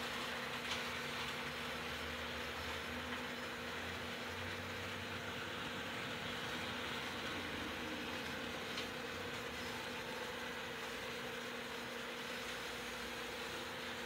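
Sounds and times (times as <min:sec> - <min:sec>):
model trains whirring on track: 0:00.0 - 0:14.0.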